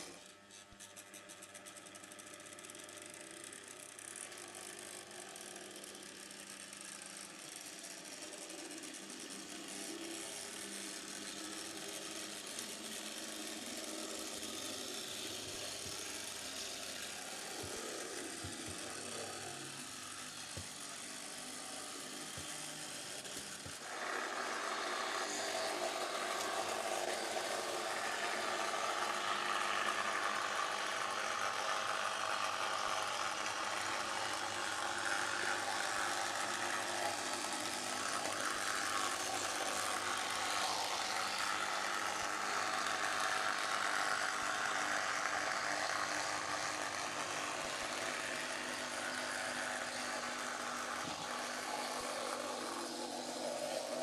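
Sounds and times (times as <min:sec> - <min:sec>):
model tram motor whirring: 0:00.0 - 0:54.0.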